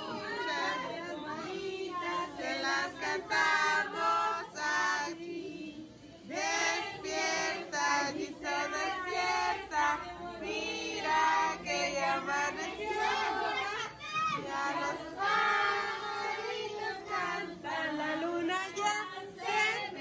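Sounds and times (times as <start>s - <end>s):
group of people singing: 0.0s - 20.0s.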